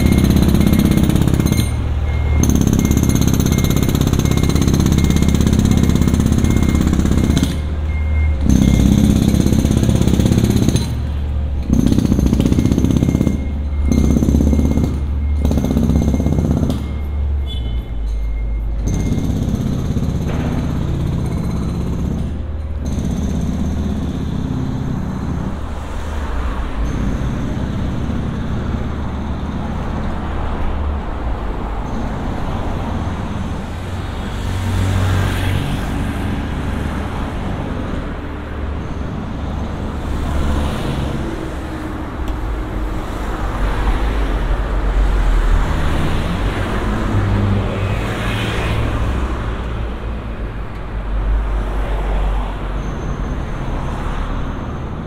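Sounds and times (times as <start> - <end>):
cars passing by: 0.0 - 55.0.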